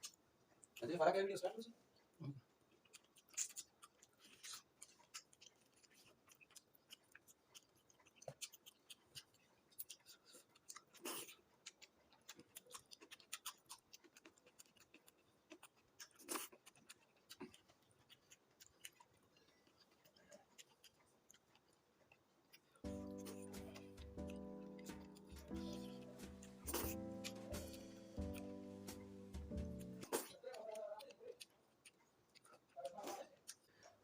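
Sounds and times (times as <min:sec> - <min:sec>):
soft chewing clicks: 0:00.0 - 0:34.0.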